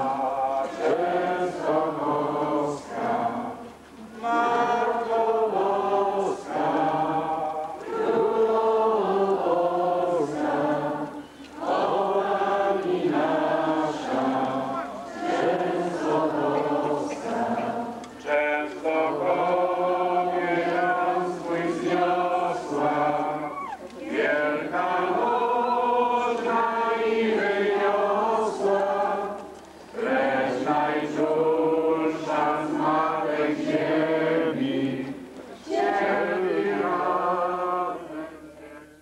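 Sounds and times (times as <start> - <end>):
congregation singing a hymn: 0.0 - 39.0.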